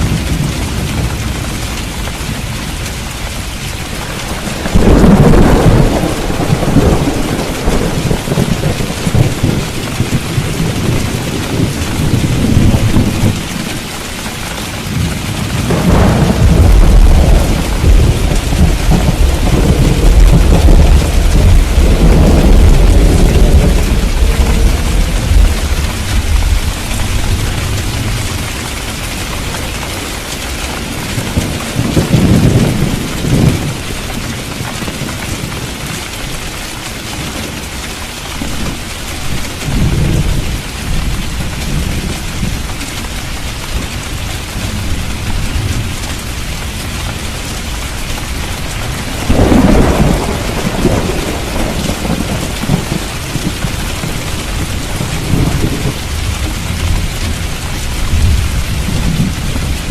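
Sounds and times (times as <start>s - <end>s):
heavy rain hissing: 0.0s - 59.9s
thunder rumbling: 0.0s - 59.9s.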